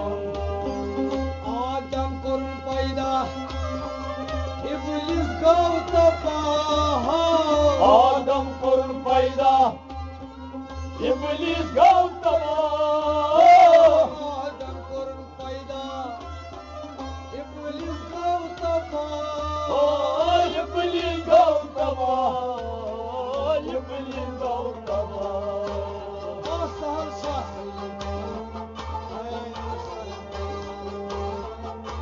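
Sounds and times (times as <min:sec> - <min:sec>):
wavering folk melody: 0:00.0 - 0:32.0.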